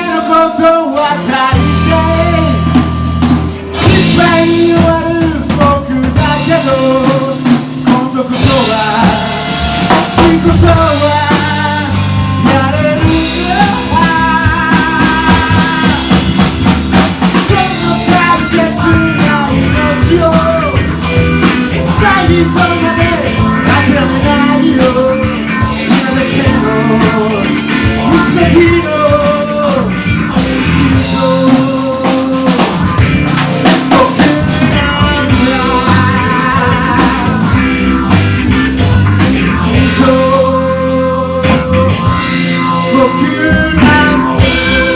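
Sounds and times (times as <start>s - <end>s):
person singing: 0.0s - 3.0s, 3.6s - 44.9s
rock band playing: 0.0s - 44.9s.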